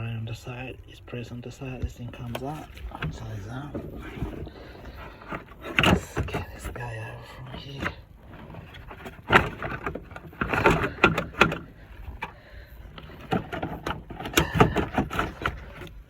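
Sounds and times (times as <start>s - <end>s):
car parts knocking and rattling: 0.0s - 16.0s.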